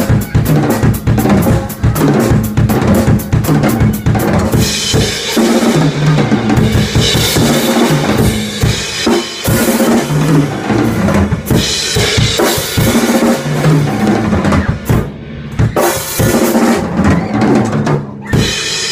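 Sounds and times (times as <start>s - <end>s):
drum kit groove: 0.0s - 18.9s.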